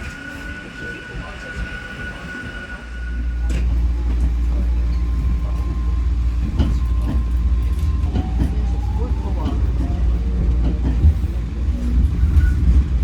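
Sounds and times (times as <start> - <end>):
train wheel squeal: 0.0 - 9.4, 11.8 - 13.0
deep train rumble: 0.0 - 13.0.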